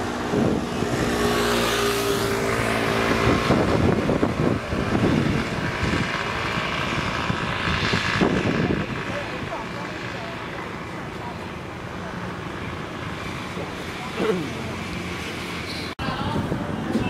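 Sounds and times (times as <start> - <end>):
motor scooter passing: 0.0 - 16.9
cars running on road: 0.0 - 17.0.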